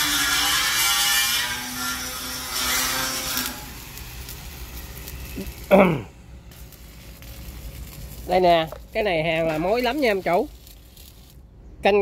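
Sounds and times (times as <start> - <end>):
arc welding crackling hiss: 0.0 - 11.4.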